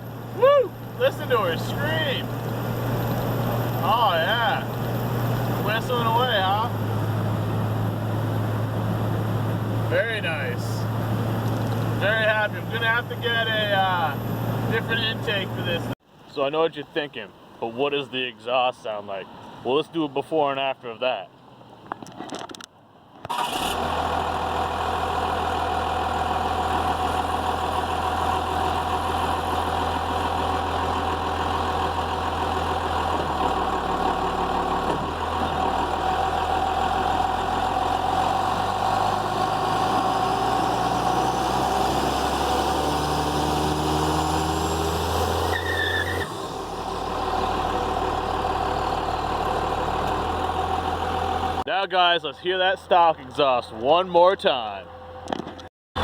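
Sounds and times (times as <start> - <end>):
diesel engine idling: 0.0 - 16.0, 23.4 - 55.2.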